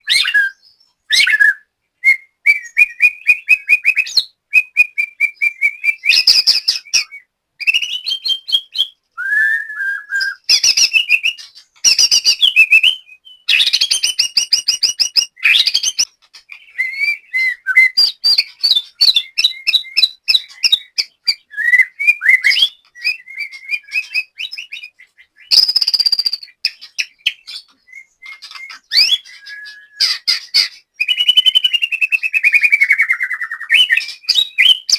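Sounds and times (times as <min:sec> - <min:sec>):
bird singing whistles and trills: 0:00.0 - 0:34.9.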